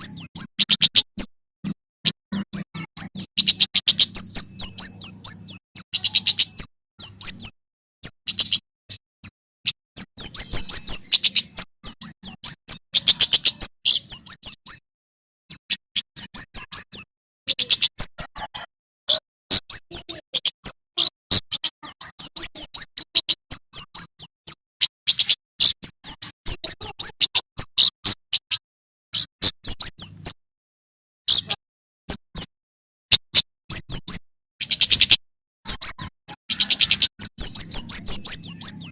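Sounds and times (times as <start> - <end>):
bird singing sharp high chirps: 0.0 - 14.8, 15.5 - 28.6, 29.2 - 30.4, 31.2 - 32.5, 33.1 - 38.9.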